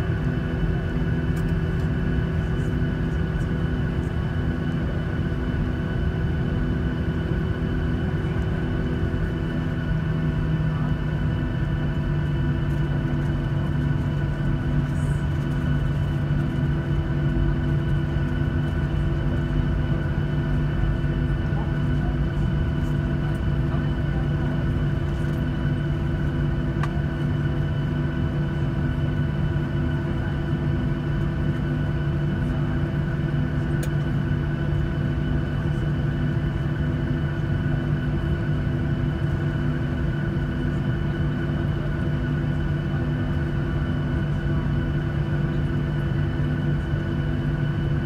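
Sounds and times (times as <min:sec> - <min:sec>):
jet engines idling hum and rumble: 0:00.0 - 0:48.0.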